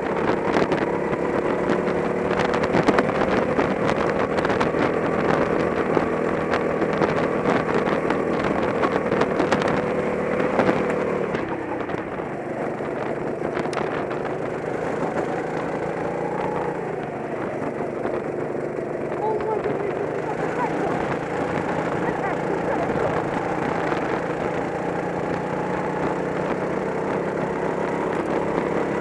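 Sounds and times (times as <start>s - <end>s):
go-kart engine running hard: 0.0s - 29.0s.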